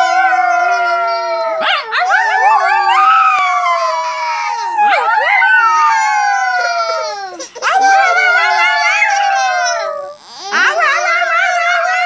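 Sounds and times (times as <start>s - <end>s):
small dog howling: 0.0s - 12.0s.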